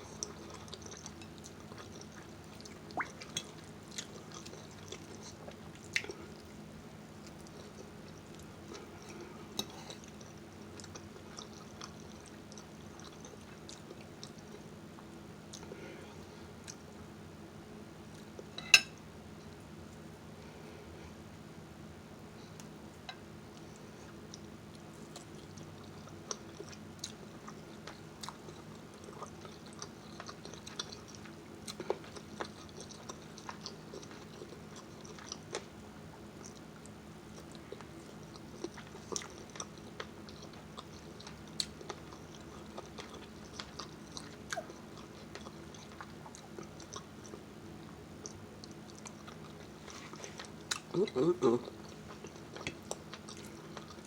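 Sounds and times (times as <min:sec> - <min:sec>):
person chewing food: 0:00.0 - 0:06.6, 0:07.2 - 0:16.9, 0:22.5 - 0:54.0.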